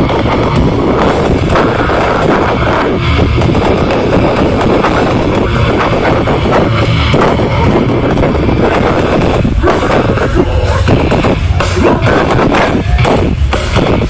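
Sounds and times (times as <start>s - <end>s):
metal band playing live: 0.0s - 14.0s.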